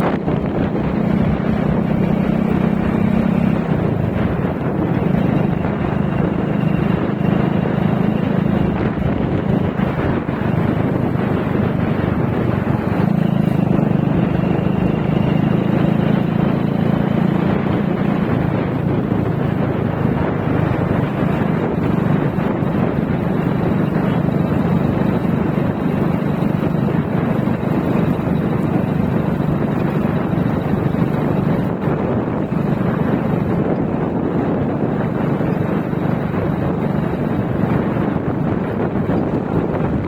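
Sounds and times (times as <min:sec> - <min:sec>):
motorcycle engine running: 0:00.0 - 0:40.0
wind buffeting microphone: 0:00.0 - 0:40.0.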